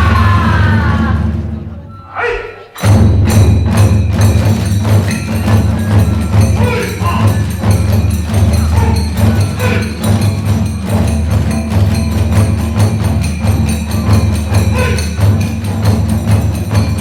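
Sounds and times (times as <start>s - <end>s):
taiko drums: 0.0s - 17.0s
hand cymbals clashing: 2.7s - 17.0s.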